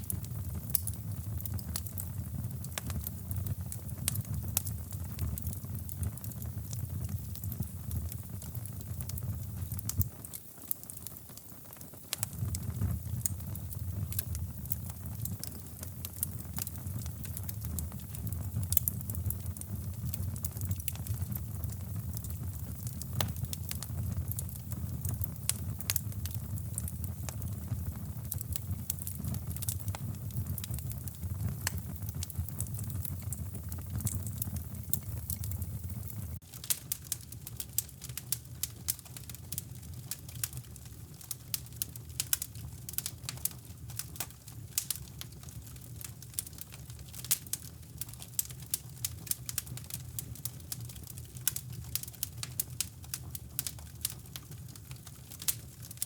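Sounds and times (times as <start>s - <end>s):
fire pops and snaps: 0.0s - 56.0s
wood fire crackling: 0.0s - 56.0s.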